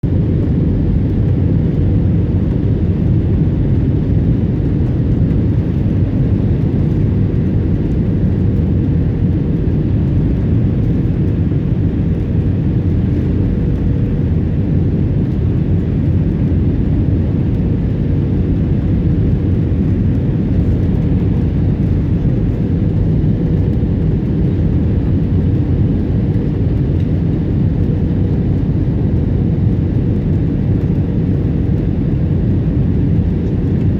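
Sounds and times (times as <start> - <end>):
airplane cabin engine roar: 0.0 - 33.9.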